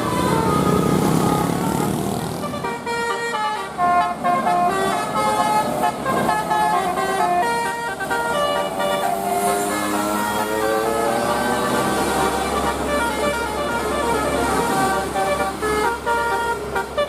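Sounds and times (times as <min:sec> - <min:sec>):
engine and traffic noise: 0:00.0 - 0:17.0
multi-tone bus horn tune: 0:00.0 - 0:17.0.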